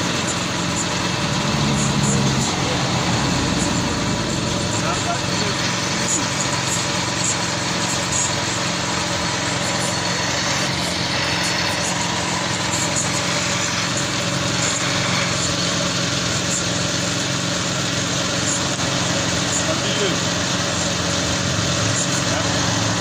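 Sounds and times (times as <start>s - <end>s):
air compressor engine running: 0.0s - 23.0s.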